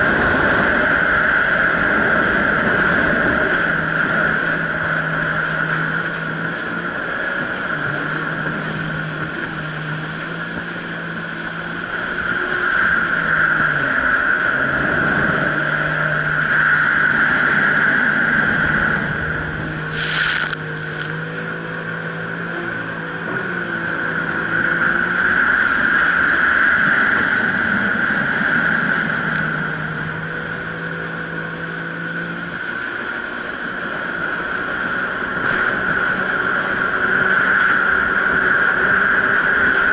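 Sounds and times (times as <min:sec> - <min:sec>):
high engine whine: 0:00.0 - 0:39.9
jet ski engine humming: 0:00.0 - 0:39.9.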